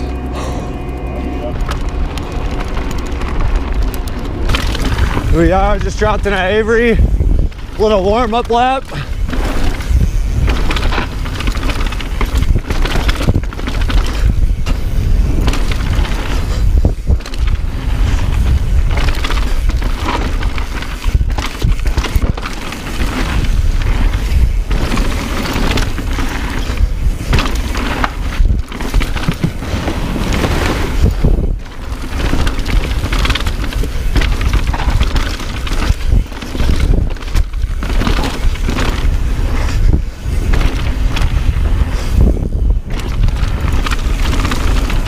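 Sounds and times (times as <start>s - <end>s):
bike rattling and knocking: 0.0s - 45.0s
tyres rolling over dirt: 0.0s - 45.0s
wind buffeting microphone: 0.0s - 45.0s.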